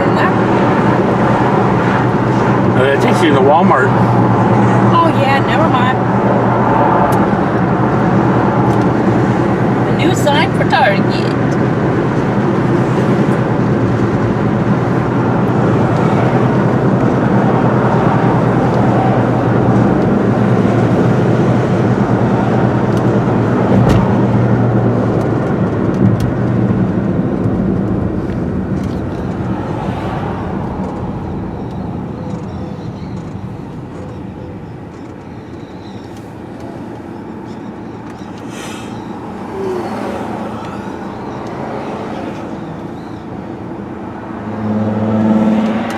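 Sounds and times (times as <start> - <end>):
car engine and tyre drone: 0.0 - 45.9.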